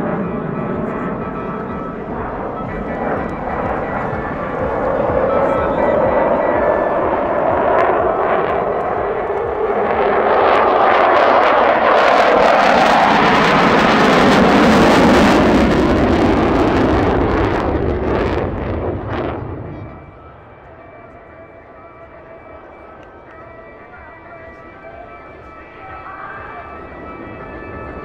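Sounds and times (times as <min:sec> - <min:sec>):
fighter jet passing: 0:00.0 - 0:28.0.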